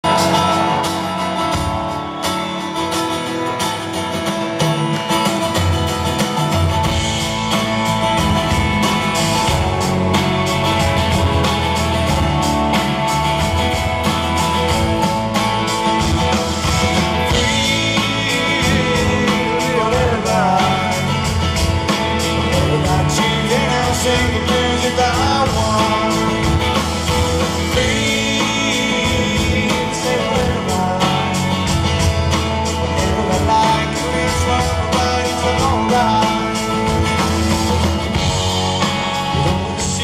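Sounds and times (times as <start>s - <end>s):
live rock band playing: 0.0s - 40.0s
strummed acoustic guitar: 0.0s - 40.0s.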